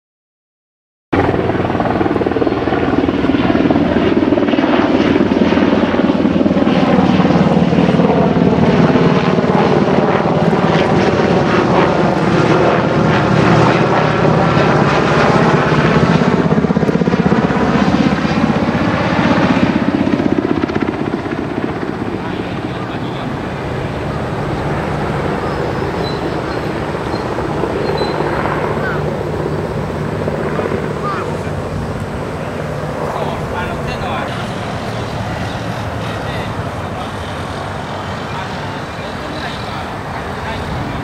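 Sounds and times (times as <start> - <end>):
helicopter flying overhead: 1.2 - 41.0.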